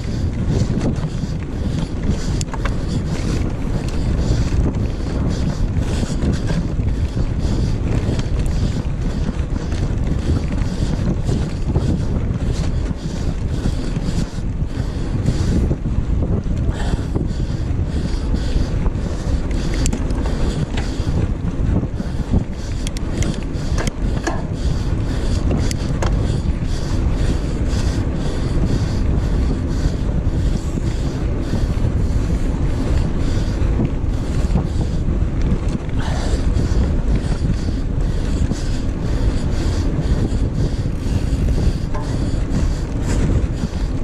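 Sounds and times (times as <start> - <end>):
bike rattling: 0.0 - 44.0
wind buffeting microphone: 0.0 - 44.0.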